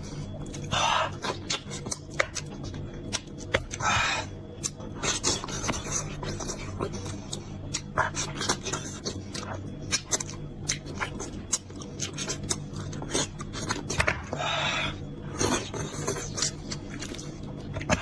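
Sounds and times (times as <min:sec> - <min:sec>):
steady low hum: 0:00.0 - 0:18.0
wet chewing and smacking: 0:00.1 - 0:18.0.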